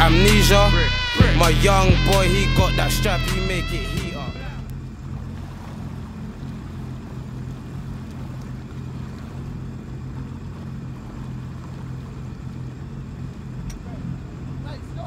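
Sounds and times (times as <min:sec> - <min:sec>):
boat motor idling: 0:00.0 - 0:15.0.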